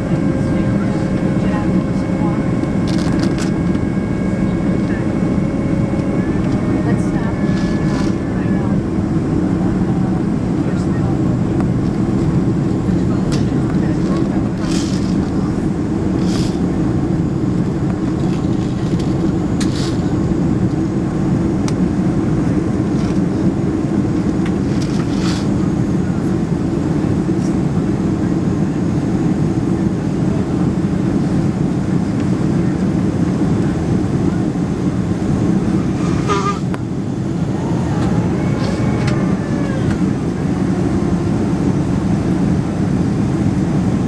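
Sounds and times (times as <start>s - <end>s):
jet cabin roar: 0.0s - 44.0s.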